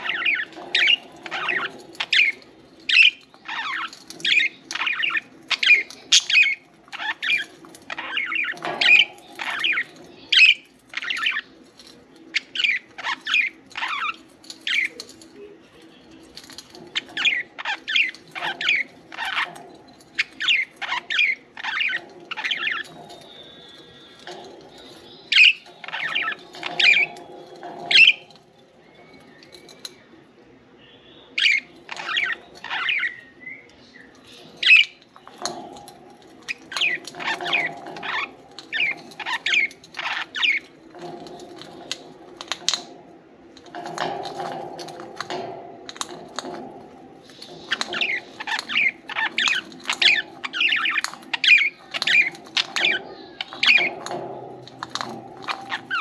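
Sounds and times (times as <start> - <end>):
budgies chirping and squawking: 0.0 - 30.0, 31.2 - 43.0, 43.6 - 56.0.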